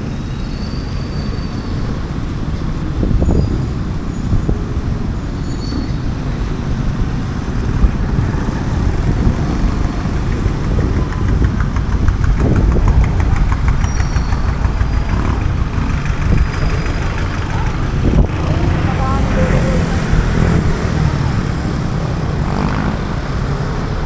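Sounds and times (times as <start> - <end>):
vehicle engines idling: 0.0 - 24.0.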